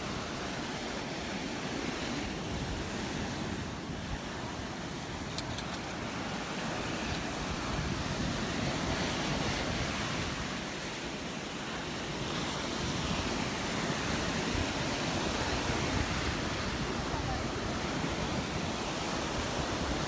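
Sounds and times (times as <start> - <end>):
surf breaking on beach: 0.0 - 20.0.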